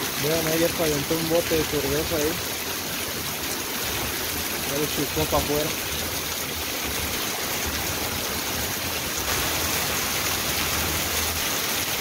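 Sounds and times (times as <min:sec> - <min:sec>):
heavy rain on pavement: 0:00.0 - 0:12.0
rainwater runoff: 0:00.0 - 0:12.0.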